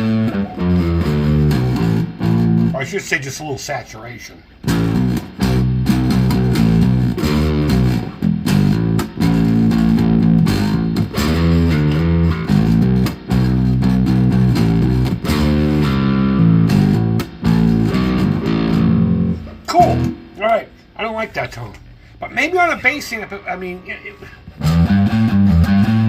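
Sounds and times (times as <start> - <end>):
distorted electric bass riff: 0.0 - 2.8, 4.6 - 20.8, 23.8 - 26.0.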